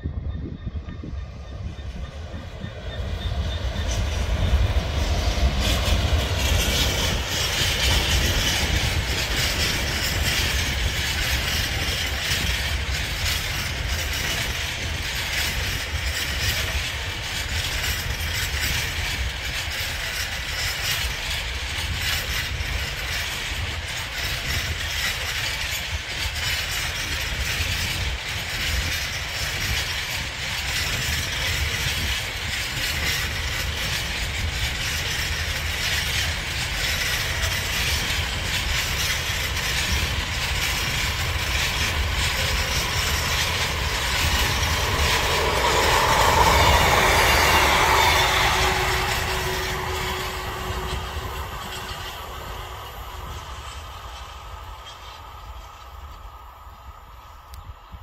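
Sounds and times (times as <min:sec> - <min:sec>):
diesel locomotive passing: 0:00.0 - 0:58.0
train wheels rumbling: 0:00.0 - 0:58.0
wheels clicking over rail joints: 0:00.8 - 0:58.0.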